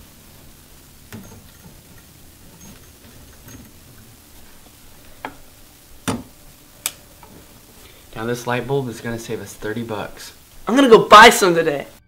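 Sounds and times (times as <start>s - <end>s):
steady low room noise: 0.0s - 12.0s.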